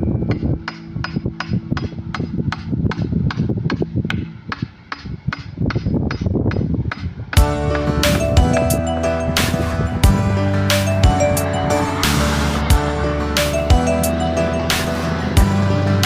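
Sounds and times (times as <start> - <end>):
hammer blows: 0.0 - 16.0.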